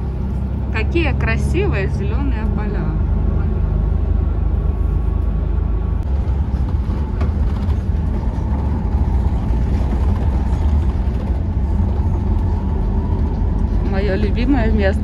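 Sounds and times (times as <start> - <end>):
bus engine drone: 0.0 - 15.0
tyre and road noise: 0.0 - 15.0.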